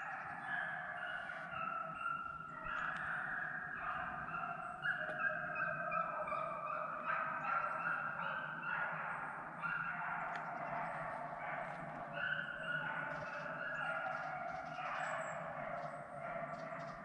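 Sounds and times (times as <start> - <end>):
hounds baying: 0.0 - 17.0.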